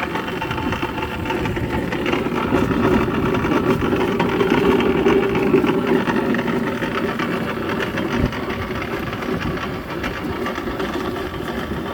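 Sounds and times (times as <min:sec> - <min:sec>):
pipe threading machine whirring: 0:00.0 - 0:11.9.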